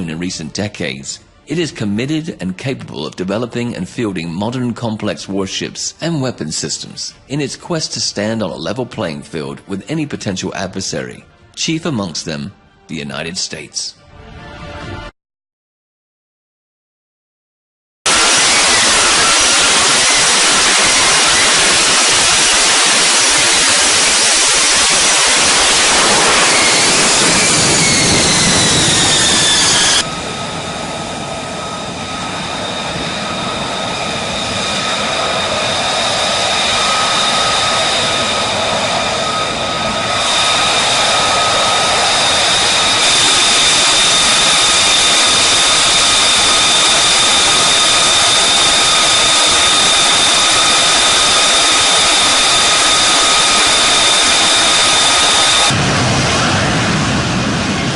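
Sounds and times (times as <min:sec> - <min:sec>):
jet engine whine: 0:00.0 - 0:11.0, 0:18.1 - 0:57.9.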